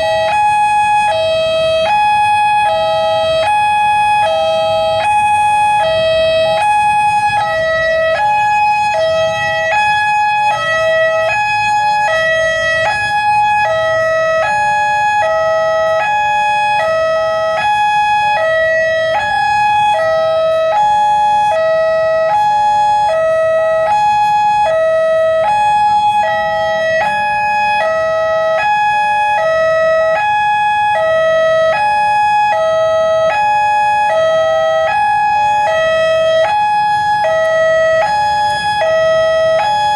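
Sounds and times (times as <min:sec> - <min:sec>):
level-crossing two-tone alarm: 0:00.0 - 0:39.9
road traffic rumble: 0:00.0 - 0:39.9.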